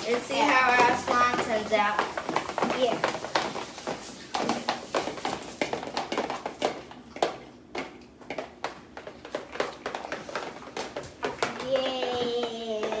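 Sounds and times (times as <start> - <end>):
spoons tapping plastic cups: 0.0 - 13.0.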